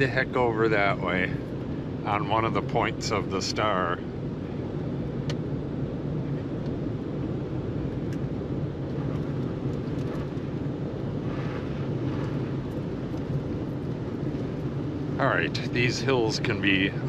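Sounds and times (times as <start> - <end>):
truck engine and tyre rumble: 0.0 - 17.0.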